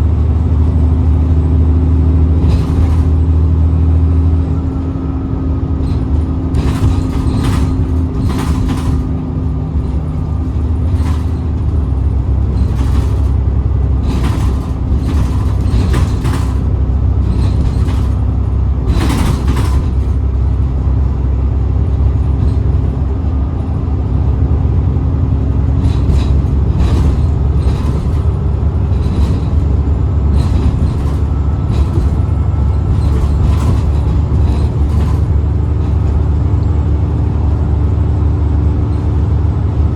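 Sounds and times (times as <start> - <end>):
bus diesel engine droning: 0.0 - 39.9
short clatters and rattles: 1.9 - 24.0, 25.4 - 39.8.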